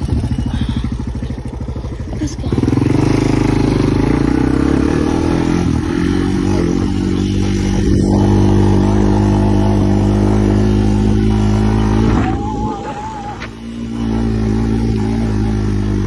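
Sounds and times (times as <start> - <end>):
four-wheeler engine running: 0.0 - 16.0.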